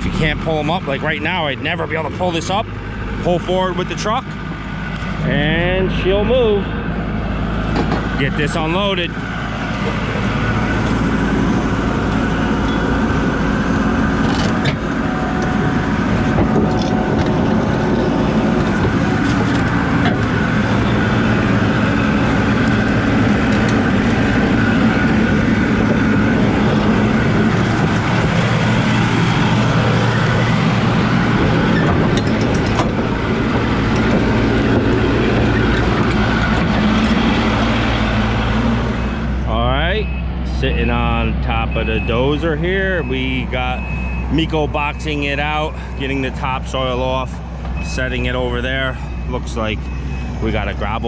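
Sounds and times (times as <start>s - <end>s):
diesel engine of dozer running: 0.0s - 51.0s.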